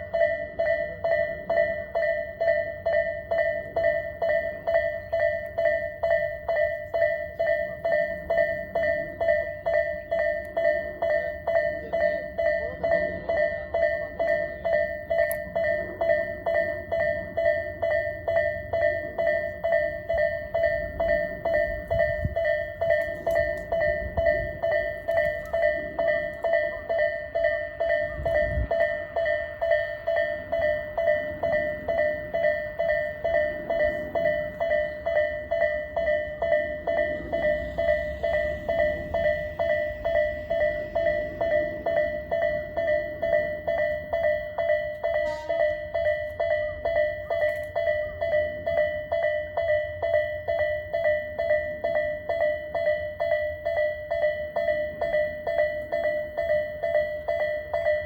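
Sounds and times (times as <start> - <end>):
level-crossing warning bell ringing: 0.0 - 58.0.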